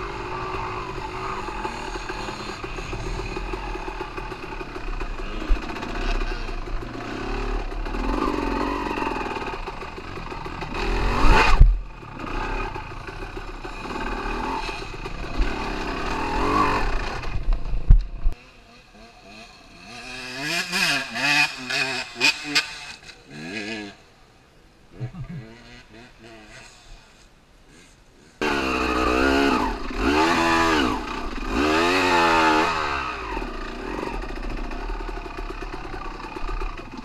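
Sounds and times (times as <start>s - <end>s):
dirt bike engine revving: 0.0s - 24.0s, 25.0s - 27.1s, 27.8s - 37.0s.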